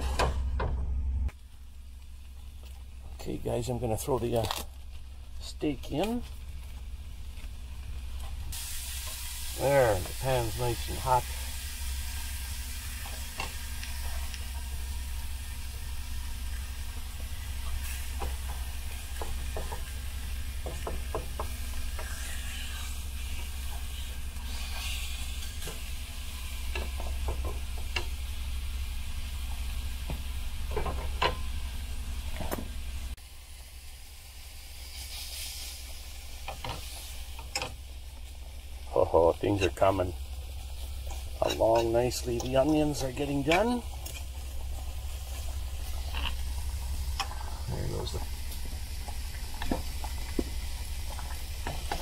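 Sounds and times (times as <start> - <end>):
low steady hum: 0.0 - 52.0
steak and onions sizzling: 6.3 - 52.0.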